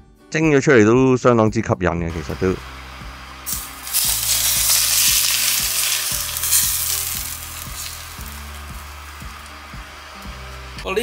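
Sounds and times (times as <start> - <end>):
hot oil sizzling and crackling: 2.1 - 11.0.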